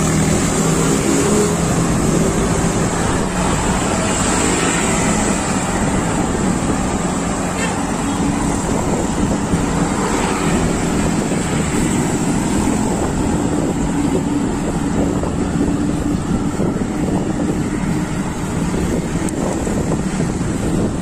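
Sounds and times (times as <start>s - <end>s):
passing motor vehicle hum: 0.0s - 21.0s
wind buffeting microphone: 0.0s - 21.0s.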